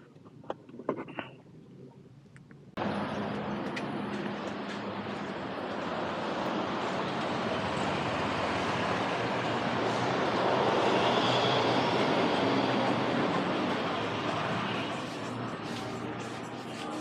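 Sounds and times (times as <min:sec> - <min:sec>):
moving vehicle rushing noise: 0:02.8 - 0:16.8.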